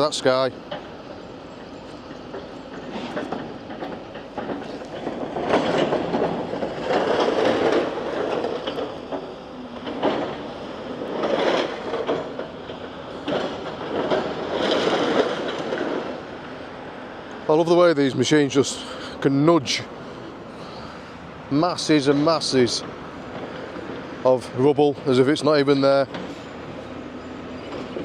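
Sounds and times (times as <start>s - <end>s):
excavator dragging rubble: 0.0s - 28.0s.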